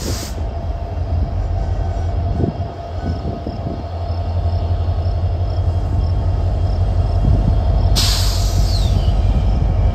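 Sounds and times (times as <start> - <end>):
train wheels rumbling on rail: 0.0 - 9.9.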